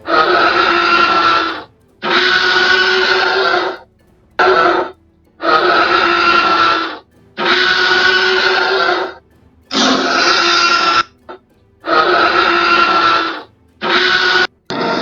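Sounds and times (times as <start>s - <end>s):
background music with steady notes: 0.0s - 15.0s.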